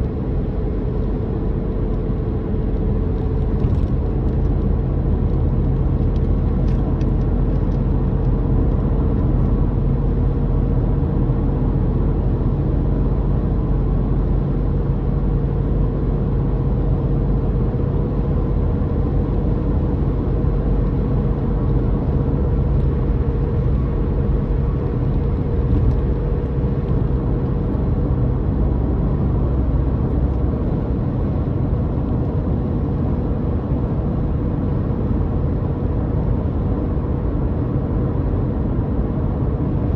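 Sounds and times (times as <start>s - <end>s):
car engine droning: 0.0s - 39.9s
road rumble: 0.0s - 39.9s.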